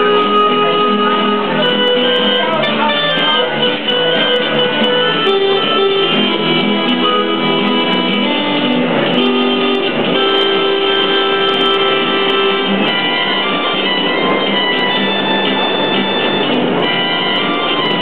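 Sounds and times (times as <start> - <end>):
electronic keyboard tune: 0.0 - 18.0.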